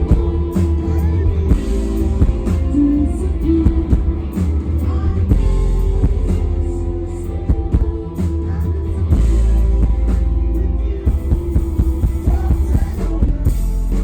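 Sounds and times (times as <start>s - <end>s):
drum kit: 0.0s - 14.0s
electric guitars: 0.0s - 14.0s
heavy bass: 0.0s - 14.0s
person singing: 0.0s - 14.0s.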